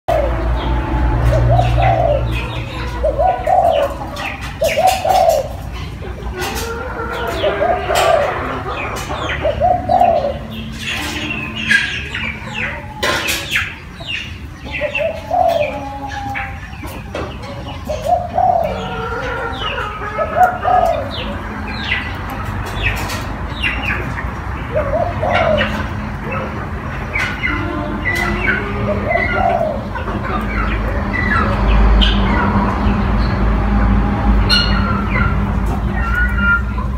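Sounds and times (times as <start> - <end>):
doves cooing: 0.1 - 32.8
small birds chirping: 0.1 - 33.8.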